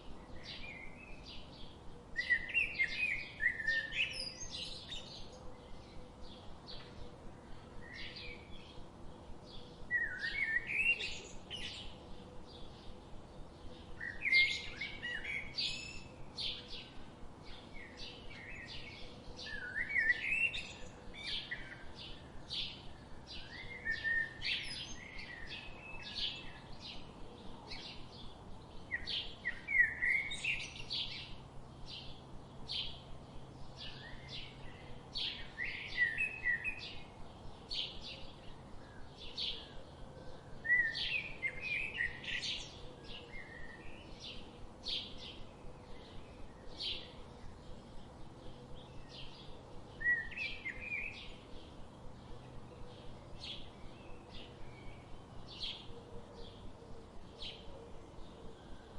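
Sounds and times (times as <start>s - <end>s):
soft steady background hiss: 0.0s - 58.9s
songbirds chirping and singing: 0.0s - 58.9s.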